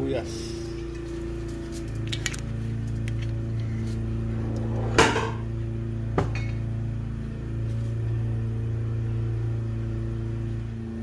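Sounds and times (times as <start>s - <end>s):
lawn mower engine droning: 0.0s - 11.0s.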